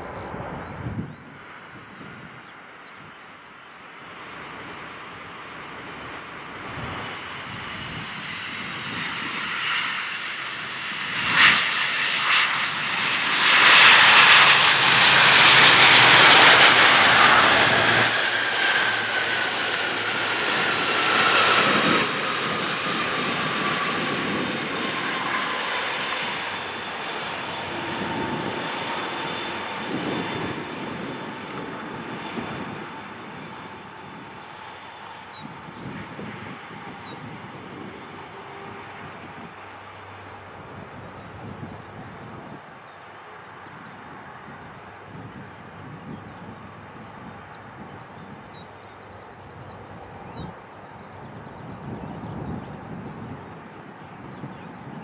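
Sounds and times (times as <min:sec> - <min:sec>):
jet aircraft landing: 0:00.0 - 0:55.0
jet engines spooling down whine: 0:00.0 - 0:55.0.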